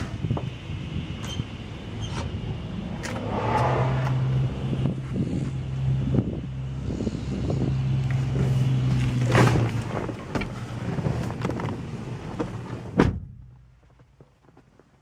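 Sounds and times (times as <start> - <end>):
car engine humming: 0.0 - 13.5.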